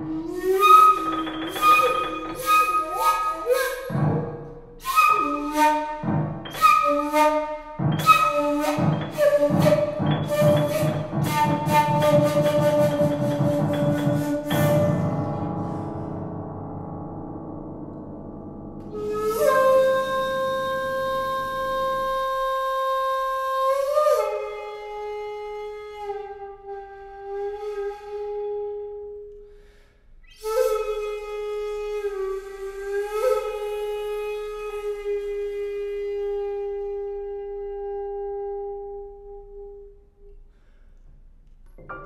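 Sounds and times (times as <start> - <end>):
bamboo flute long notes: 0.0 - 16.1, 18.8 - 40.4.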